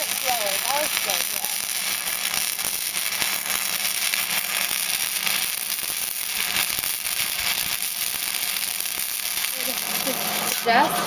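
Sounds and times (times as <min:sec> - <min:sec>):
welder arc crackling hiss: 0:00.0 - 0:11.0.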